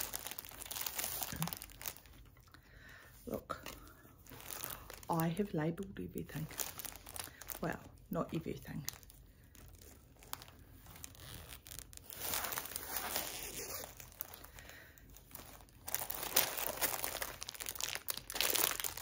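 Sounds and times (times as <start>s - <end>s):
plastic packaging crinkling: 0.0s - 2.6s, 3.5s - 5.5s, 6.2s - 19.0s.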